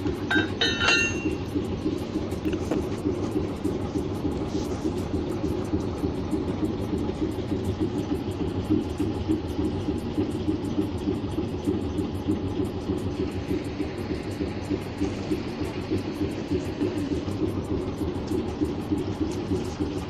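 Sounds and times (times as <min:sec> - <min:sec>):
diesel locomotive engine idling: 0:00.0 - 0:20.0.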